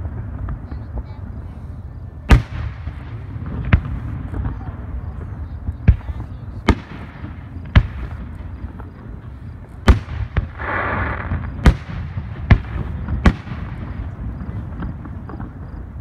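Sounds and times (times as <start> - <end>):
firework bangs: 0.0 - 16.0
firework hissing: 0.0 - 16.0.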